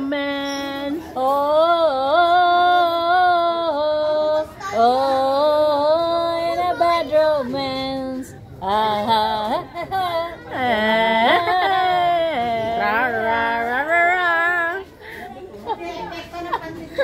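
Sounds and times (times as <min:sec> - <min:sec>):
woman singing: 0:00.0 - 0:14.9.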